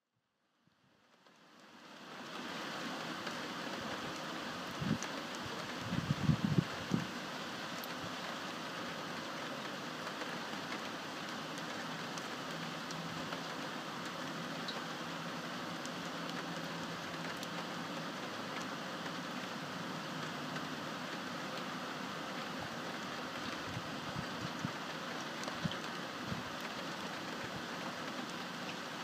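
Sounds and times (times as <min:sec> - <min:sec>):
steady rain falling: 0:00.6 - 0:29.0.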